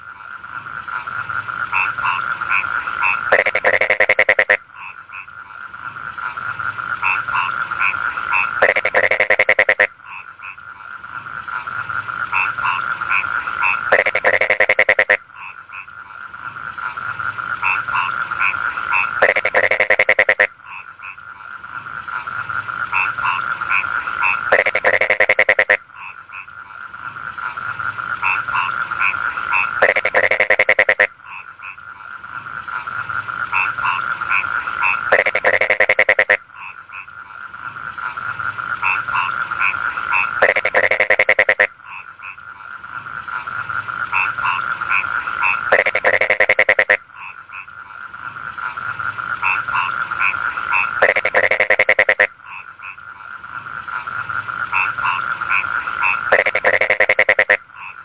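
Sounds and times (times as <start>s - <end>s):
frogs croaking in chorus: 0.0s - 58.0s
loud rattling frog call: 0.0s - 58.0s.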